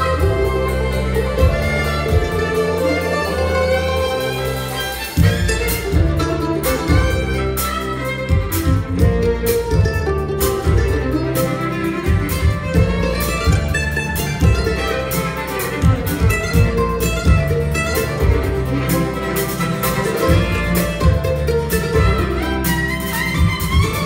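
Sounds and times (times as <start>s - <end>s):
bluegrass band playing: 0.0s - 24.0s
bowed fiddle melody: 0.0s - 24.0s.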